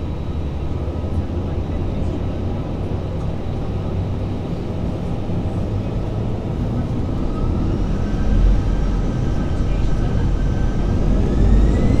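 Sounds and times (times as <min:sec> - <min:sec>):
jet engine whine: 0:00.0 - 0:12.0
jet engines rumbling: 0:00.0 - 0:12.0.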